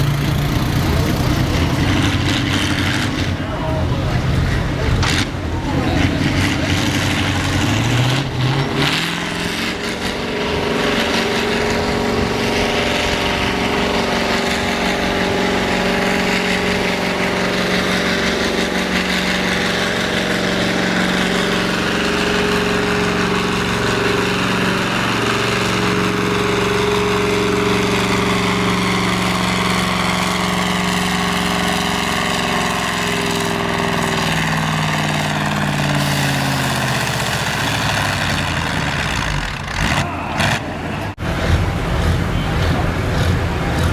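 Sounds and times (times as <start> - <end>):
tractor engine at high revs: 0.0 - 43.9.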